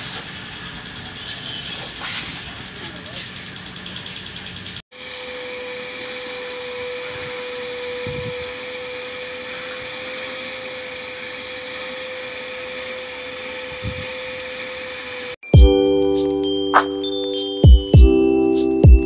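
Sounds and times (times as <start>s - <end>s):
vacuum cleaner whining: 0.0s - 15.4s.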